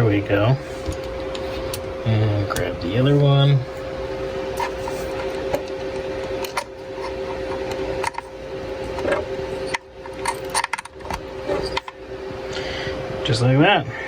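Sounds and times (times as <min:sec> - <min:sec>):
steady two-tone hum: 0:00.0 - 0:14.0.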